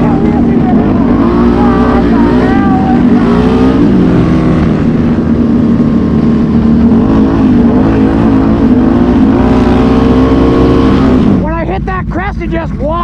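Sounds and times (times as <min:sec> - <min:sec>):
quad bike engine running hard: 0:00.0 - 0:13.0.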